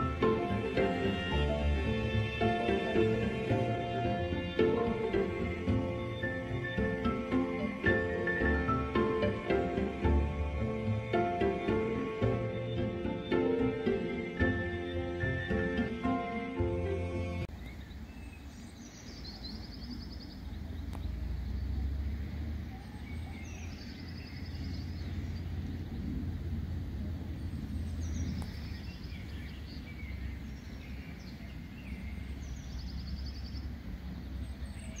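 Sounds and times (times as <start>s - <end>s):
steady low rumble: 0.0s - 15.4s, 19.6s - 35.0s.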